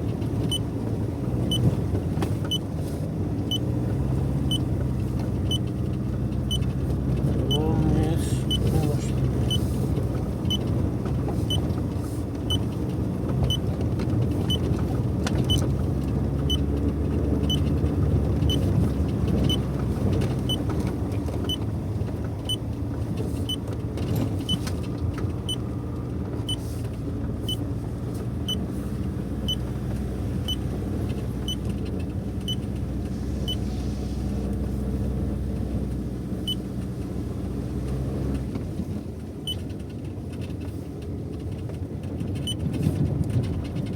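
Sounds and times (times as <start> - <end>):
car engine droning: 0.0 - 43.9.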